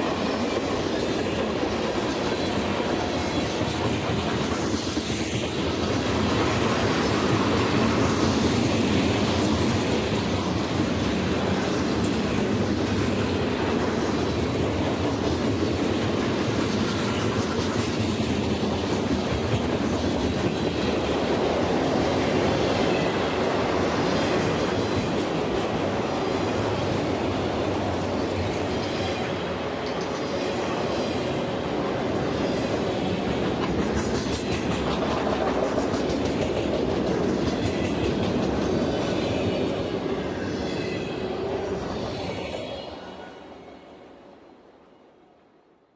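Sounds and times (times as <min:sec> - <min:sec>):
train wheels on track: 0:00.0 - 0:44.1.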